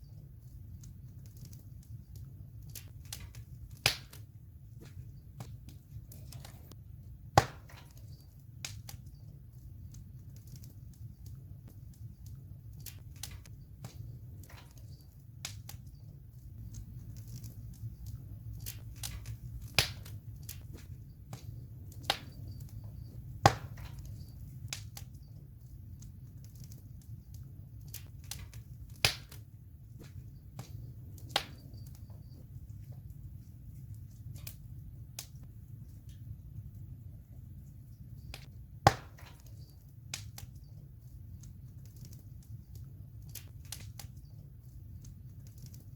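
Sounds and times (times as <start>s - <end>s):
campfire wood crackling and popping: 0.0s - 45.9s
low rumble of fire: 0.0s - 45.9s.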